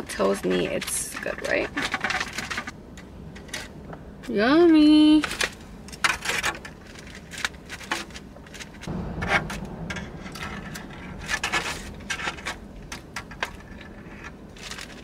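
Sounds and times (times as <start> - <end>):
scraping and rustling handling noise: 0.0 - 15.0.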